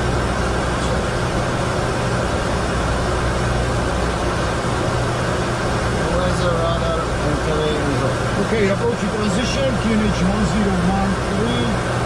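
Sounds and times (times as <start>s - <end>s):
air rush and engine noise: 0.0s - 12.0s.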